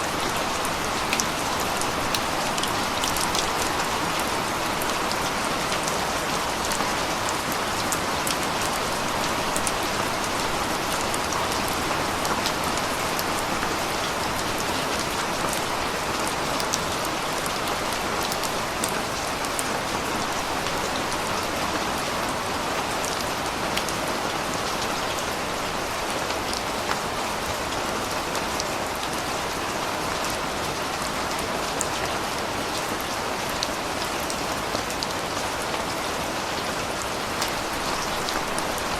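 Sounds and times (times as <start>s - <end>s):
raindrops ticking on a surface: 0.0s - 38.9s
steady rain falling: 0.0s - 38.9s.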